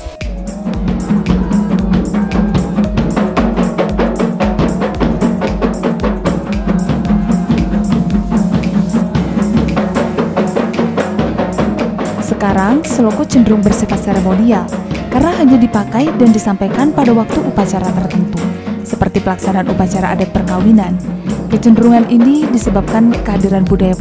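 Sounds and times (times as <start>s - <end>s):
bass drum beating: 0.0s - 24.0s
frame drums beating: 0.0s - 24.0s.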